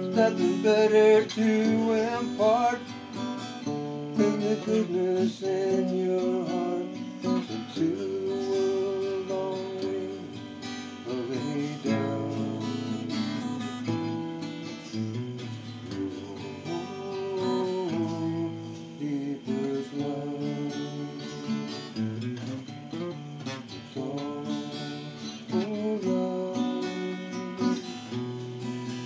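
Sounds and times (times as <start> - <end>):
acoustic guitar strumming and picking: 0.0 - 29.0.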